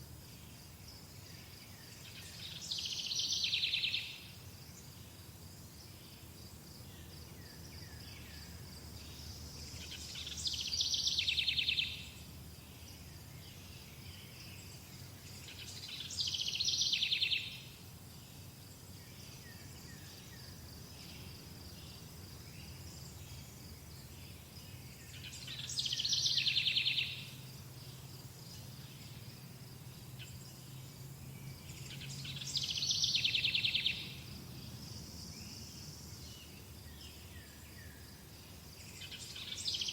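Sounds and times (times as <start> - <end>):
insects chirring: 0.2 - 39.9
songbird trilled song: 0.3 - 4.9, 6.8 - 39.9.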